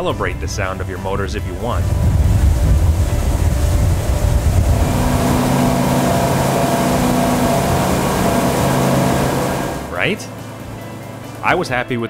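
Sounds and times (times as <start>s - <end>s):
outboard engines running: 0.0s - 12.0s.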